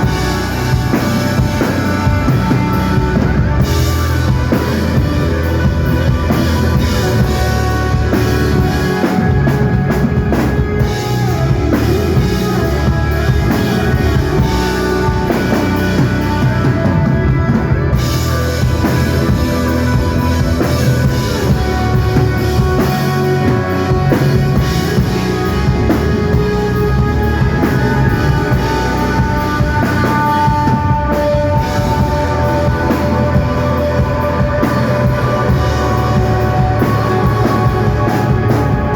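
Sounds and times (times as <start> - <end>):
bass guitar: 0.0 - 38.9
electric guitar: 0.0 - 38.9
steady drum beat: 0.0 - 38.9.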